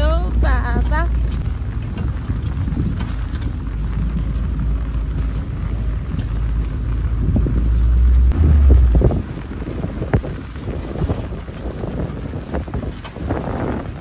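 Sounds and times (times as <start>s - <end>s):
vehicle driving on wet gravel: 0.0s - 14.0s.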